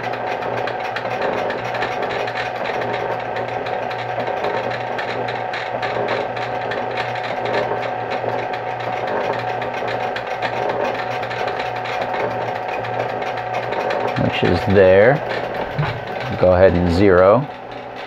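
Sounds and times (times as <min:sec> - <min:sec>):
fast mechanical clatter: 0:00.0 - 0:18.0
metal shaper motor hum: 0:00.0 - 0:18.0.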